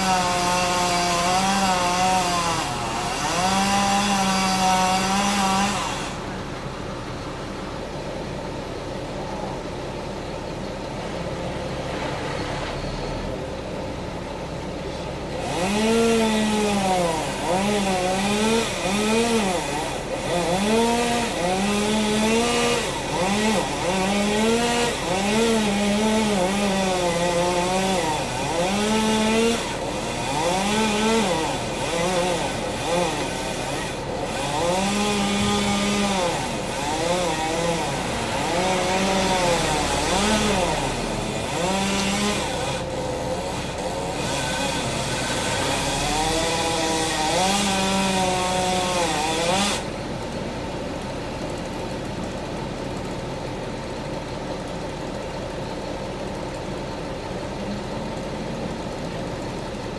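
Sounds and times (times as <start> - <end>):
chainsaw revving cutting wood: 0.0 - 6.7, 14.8 - 59.9.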